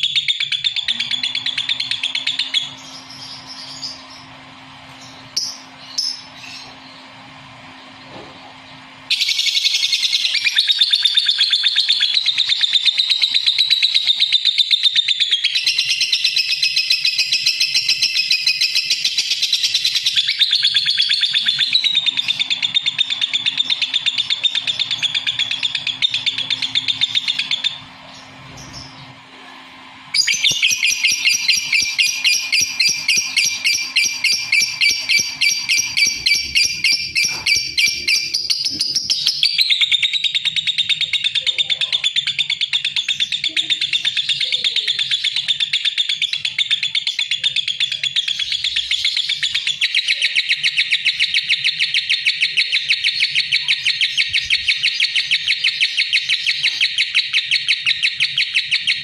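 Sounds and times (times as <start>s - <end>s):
lovebird chattering: 0.0s - 4.3s, 9.1s - 29.0s, 30.2s - 59.0s.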